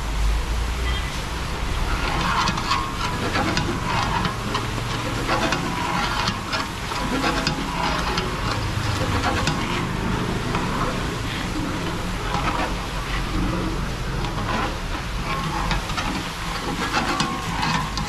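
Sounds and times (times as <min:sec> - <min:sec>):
chips sizzling in hot oil: 0:01.2 - 0:18.0
sharp clicks and clatter: 0:01.8 - 0:18.0.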